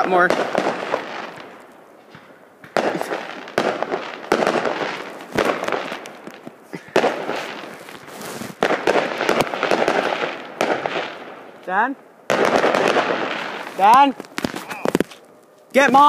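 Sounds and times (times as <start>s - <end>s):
fireworks bangs with crackling: 0.0s - 16.0s.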